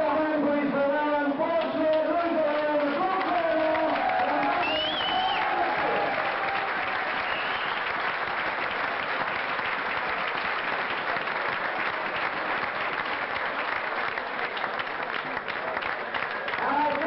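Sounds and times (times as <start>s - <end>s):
crowd applauding: 1.4s - 17.0s.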